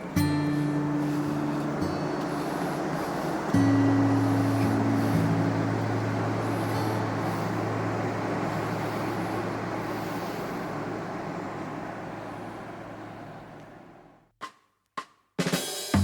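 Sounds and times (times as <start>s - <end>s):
rushing noise: 0.0s - 14.1s
low engine drone: 0.0s - 14.3s.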